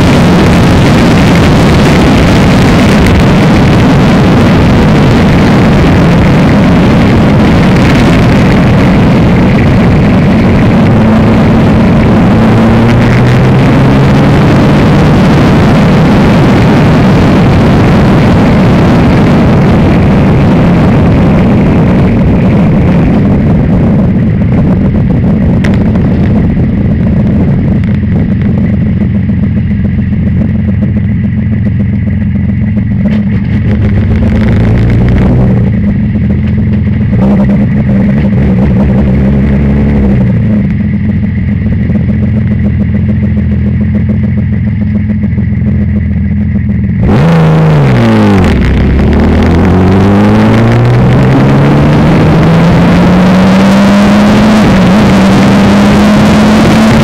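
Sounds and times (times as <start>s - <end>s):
racing car engine: 0.0s - 57.0s
rushing wind: 0.0s - 57.0s.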